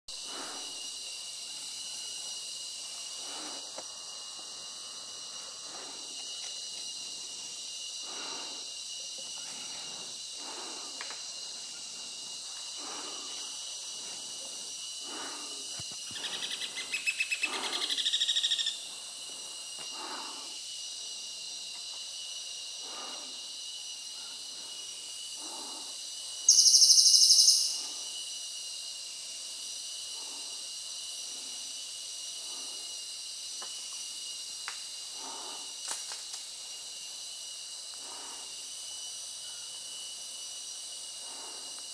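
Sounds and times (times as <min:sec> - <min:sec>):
high-pitched insect chorus: 0:00.1 - 0:41.9
loud high insect buzz: 0:00.1 - 0:41.9.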